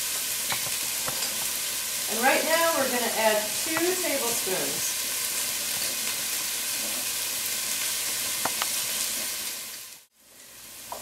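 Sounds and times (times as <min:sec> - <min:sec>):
onion sizzling in frying pan: 0:00.0 - 0:11.0.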